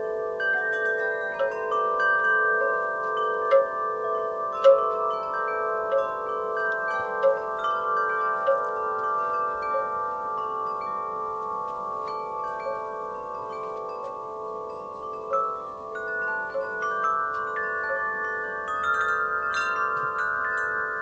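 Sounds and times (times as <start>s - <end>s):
metal wind chimes ringing: 0.0s - 21.0s.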